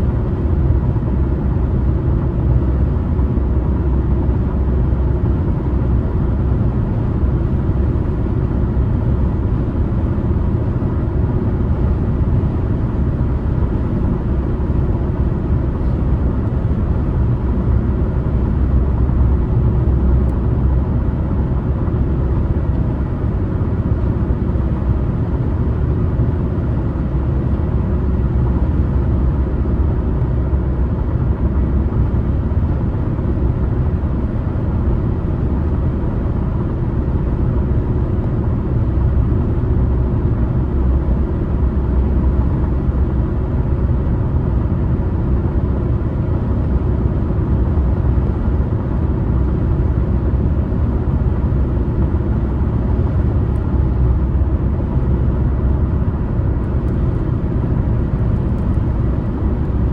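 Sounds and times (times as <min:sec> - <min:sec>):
car engine noise: 0:00.0 - 0:59.9
road and tyre rumble: 0:00.0 - 0:59.9.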